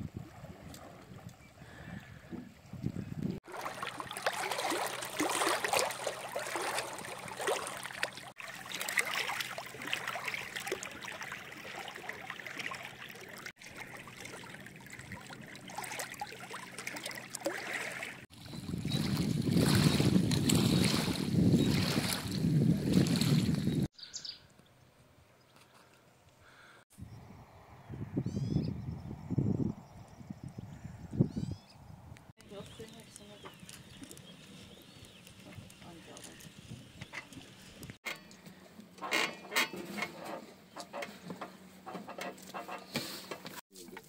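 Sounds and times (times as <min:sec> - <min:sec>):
water lapping at the shore: 0:00.0 - 0:23.9, 0:32.4 - 0:44.0.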